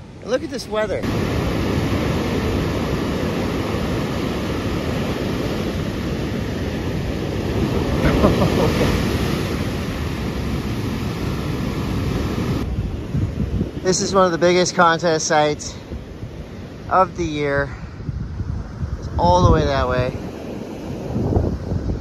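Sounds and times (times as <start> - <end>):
surf breaking on beach: 0.0 - 22.0
wind buffeting microphone: 0.7 - 14.8, 15.4 - 22.0.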